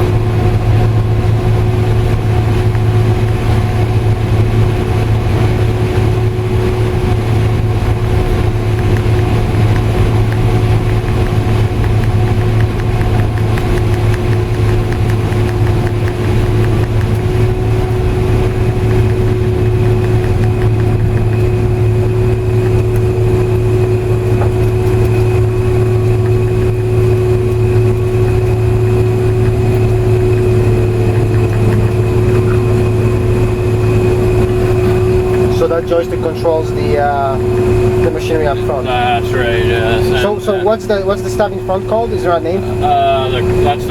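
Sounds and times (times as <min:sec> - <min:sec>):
combine harvester engine drone: 0:00.0 - 0:43.9
machinery hum: 0:00.0 - 0:43.9
thin high whine: 0:00.0 - 0:43.9.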